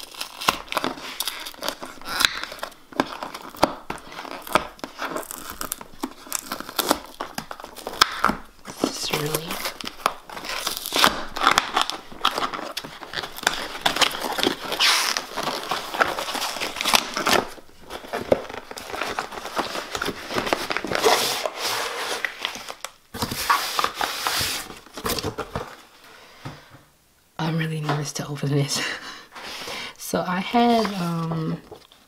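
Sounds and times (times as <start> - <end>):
packing tape tearing: 0.0 - 25.7
cardboard crinkling: 0.0 - 26.0, 30.4 - 32.0.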